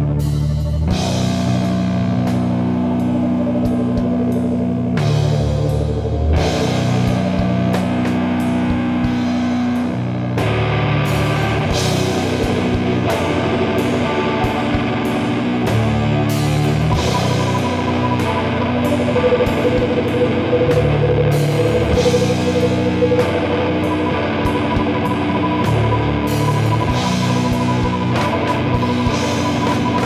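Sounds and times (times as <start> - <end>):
drum kit: 0.0 - 30.0
heavy guitar chords: 0.0 - 30.0.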